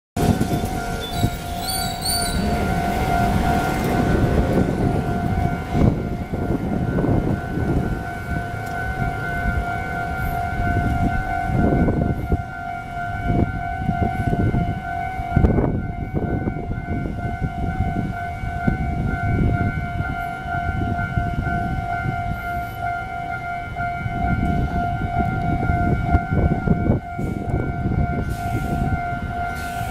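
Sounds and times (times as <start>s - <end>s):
level crossing bell: 0.4s - 29.9s.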